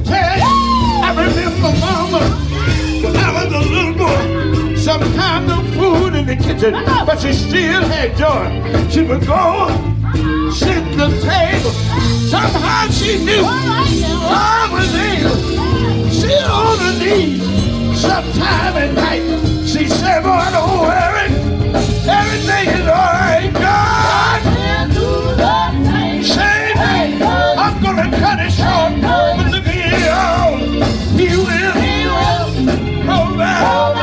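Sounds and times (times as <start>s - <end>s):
bass line: 0.0s - 34.0s
drums: 0.0s - 34.0s
gospel group singing: 0.0s - 34.0s.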